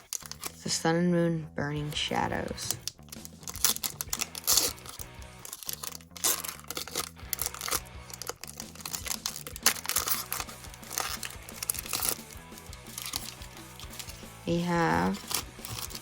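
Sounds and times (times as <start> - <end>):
foil wrapper crinkling and tearing: 0.0 - 0.6, 2.0 - 16.0
background music: 0.0 - 16.0.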